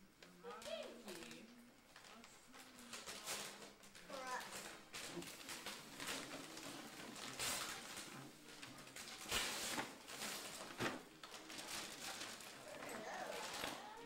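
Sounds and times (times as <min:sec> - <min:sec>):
wrapping paper rustling and tearing: 0:00.5 - 0:14.0.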